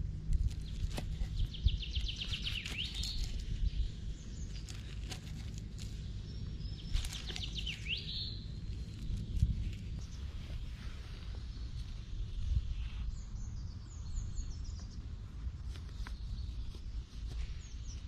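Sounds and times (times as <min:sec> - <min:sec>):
songbird singing: 0:00.0 - 0:18.0
steady low rumble: 0:00.0 - 0:18.0.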